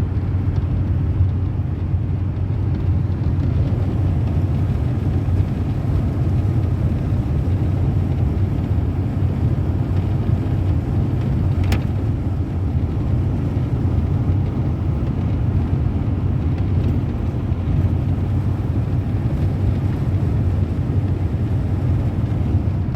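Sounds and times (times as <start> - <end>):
vehicle engine and tyres rumbling: 0.0 - 22.9.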